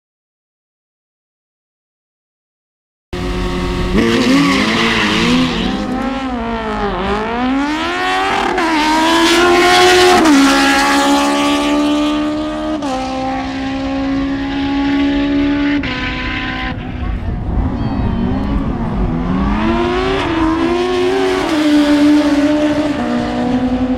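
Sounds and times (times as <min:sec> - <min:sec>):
racing engine revving: 0:03.2 - 0:23.9.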